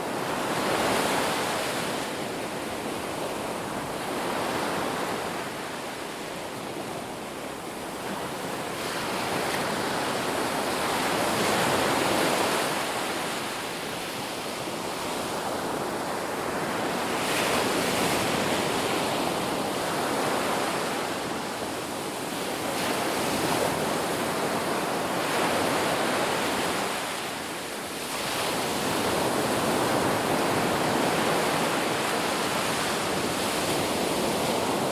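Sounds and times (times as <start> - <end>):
waves breaking on shore: 0.0 - 34.9.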